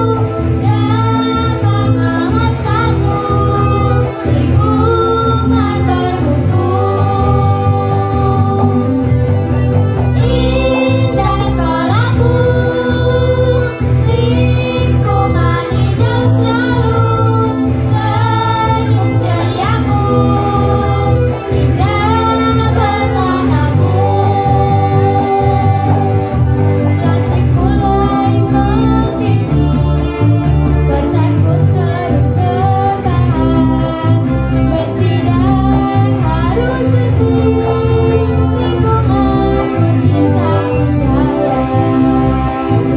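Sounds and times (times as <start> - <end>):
girls singing: 0.0 - 9.1, 10.2 - 42.9
band backing with bass line: 0.0 - 42.9
electric guitar: 0.0 - 42.9.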